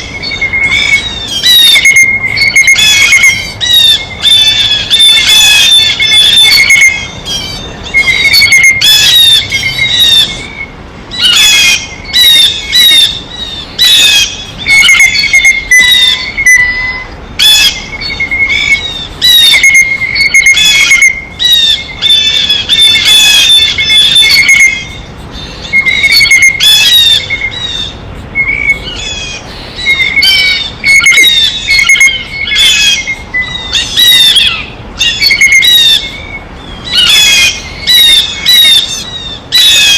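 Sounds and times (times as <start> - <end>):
blue jays squawking: 0.0 - 39.9.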